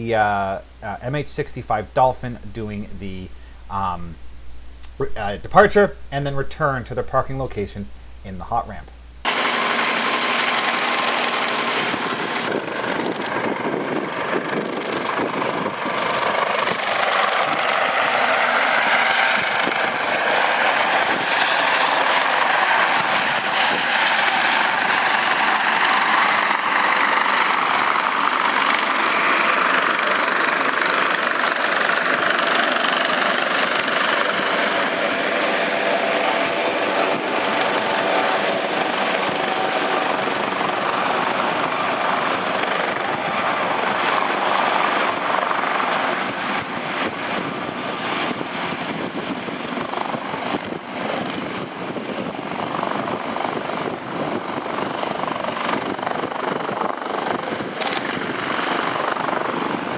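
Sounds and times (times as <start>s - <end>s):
helicopter turbine whine and rotor: 9.2s - 59.9s.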